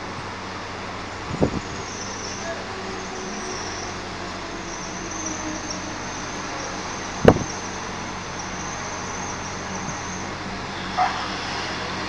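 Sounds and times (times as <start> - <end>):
cars passing on wet road: 0.0 - 12.0.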